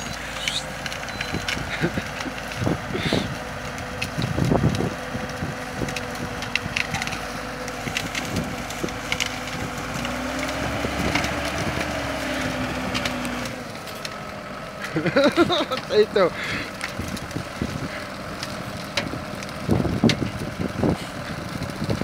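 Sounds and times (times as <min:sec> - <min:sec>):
branches cracking and snapping: 0:00.0 - 0:22.0
tractor engine running: 0:00.0 - 0:22.0.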